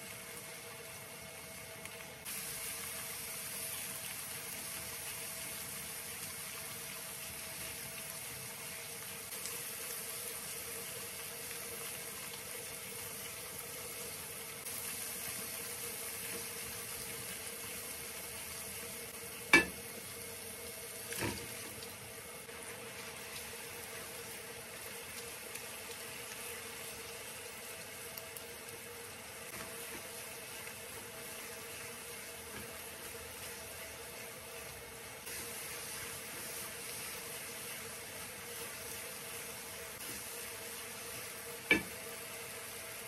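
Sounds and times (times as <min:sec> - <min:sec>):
masala sizzling in frying pan: 0:00.0 - 0:43.0.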